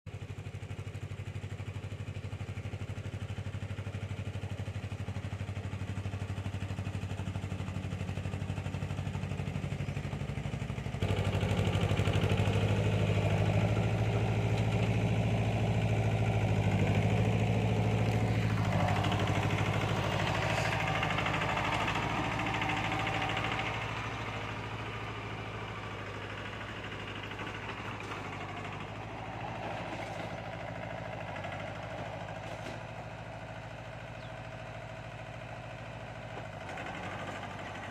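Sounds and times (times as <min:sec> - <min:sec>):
tractor diesel engine idling: 0:00.1 - 0:37.9.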